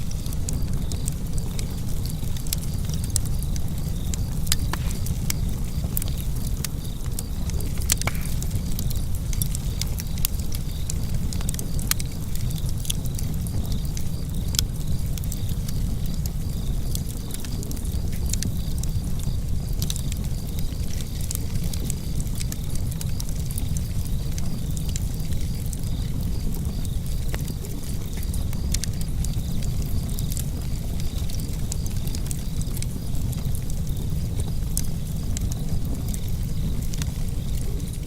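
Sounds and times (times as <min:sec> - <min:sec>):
fire crackling and popping: 0:00.0 - 0:38.0
fire flames rumbling: 0:00.0 - 0:38.0.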